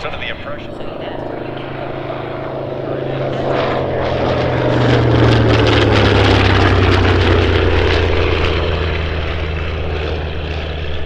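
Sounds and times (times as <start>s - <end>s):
propeller plane passing overhead: 0.0s - 11.0s.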